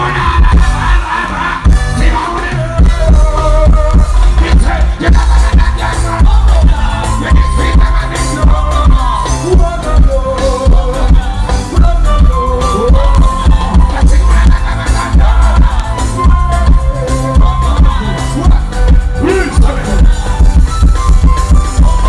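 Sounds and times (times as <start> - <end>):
loud music with heavy bass: 0.0 - 22.0
person singing: 0.0 - 22.0.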